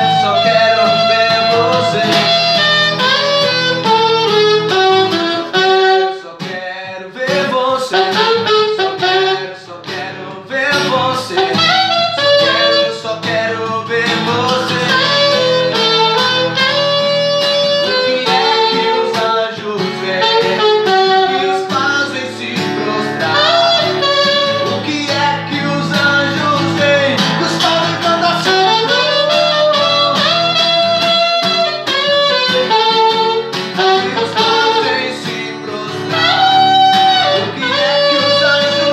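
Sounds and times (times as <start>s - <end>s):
alto saxophone melody: 0.0s - 6.3s, 7.7s - 9.8s, 10.7s - 38.9s
strummed acoustic guitar: 0.0s - 38.9s.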